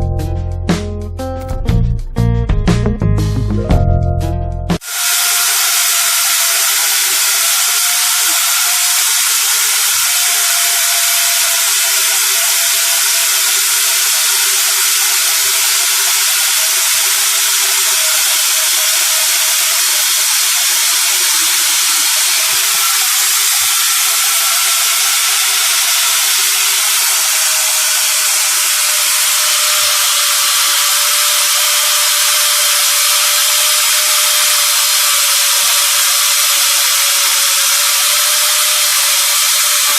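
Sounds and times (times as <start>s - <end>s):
angle grinder motor whine: 4.8s - 39.9s.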